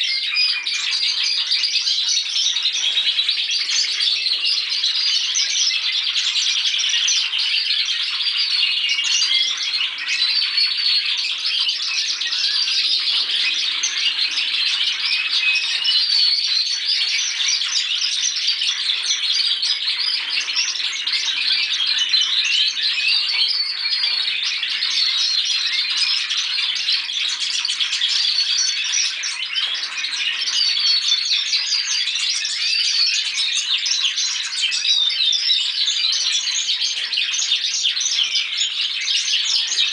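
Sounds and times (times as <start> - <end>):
canaries singing trills and chirps: 0.0 - 39.9.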